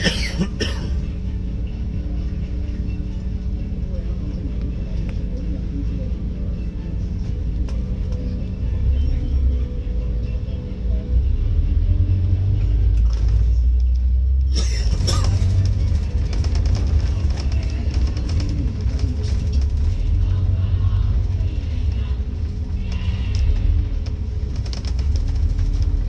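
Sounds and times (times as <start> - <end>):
bus engine deep rumble: 0.0 - 26.0.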